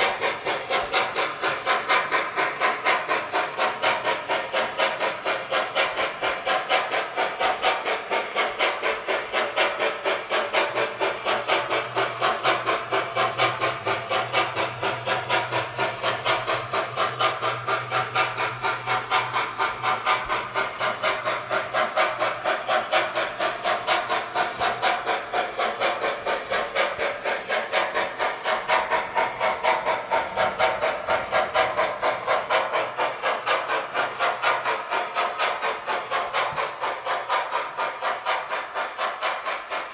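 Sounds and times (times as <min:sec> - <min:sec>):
model steam locomotive chuffs: 0:00.0 - 0:39.9.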